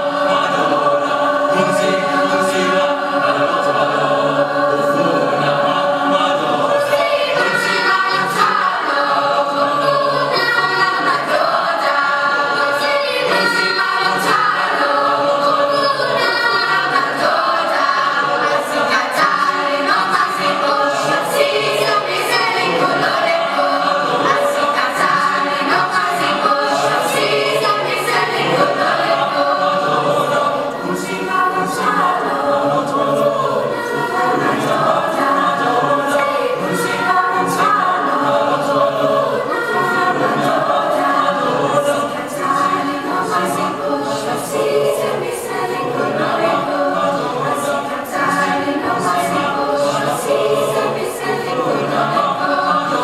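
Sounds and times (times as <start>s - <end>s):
choir singing in harmony: 0.0s - 53.0s.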